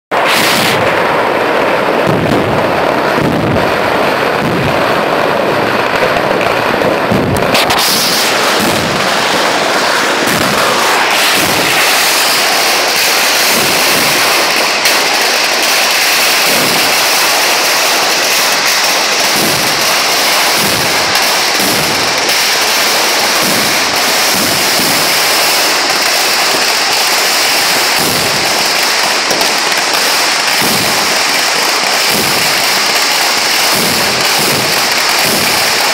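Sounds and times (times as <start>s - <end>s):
fireworks barrage bursting: 0.1s - 35.9s.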